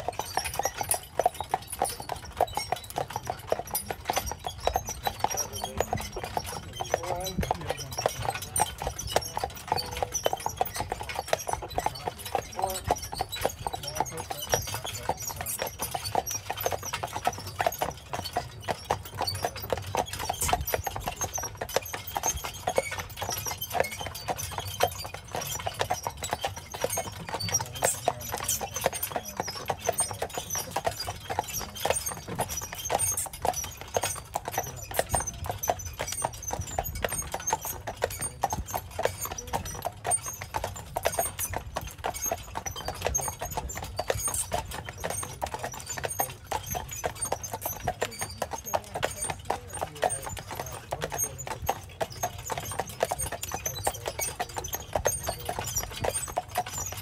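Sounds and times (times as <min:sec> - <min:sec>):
hooves clip-clopping on pavement: 0:00.0 - 0:57.0.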